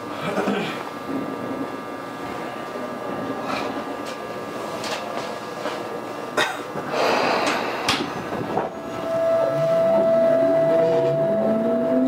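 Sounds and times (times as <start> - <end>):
faint equipment hum: 0.0 - 12.0.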